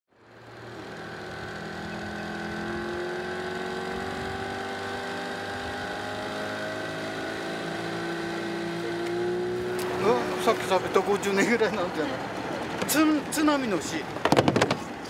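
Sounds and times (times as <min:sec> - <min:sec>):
outboard motor running: 0:00.2 - 0:15.0.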